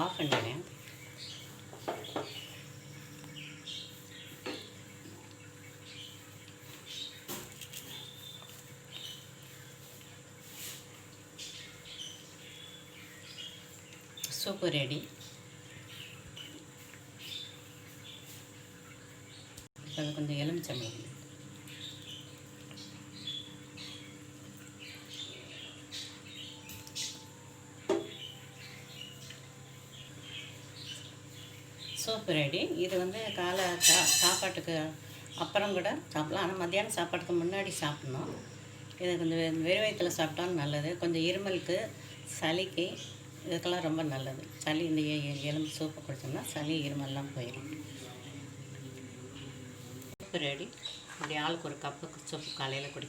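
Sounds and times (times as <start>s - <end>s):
birds chirping: 0.0s - 53.0s
low steady hum: 0.0s - 53.0s.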